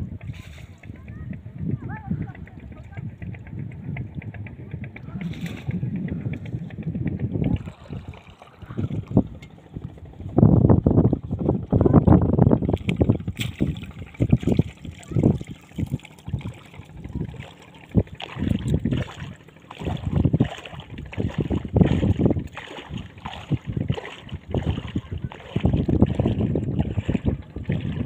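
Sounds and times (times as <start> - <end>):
faint water sounds: 0.0 - 28.0
wind buffeting microphone: 0.0 - 28.0.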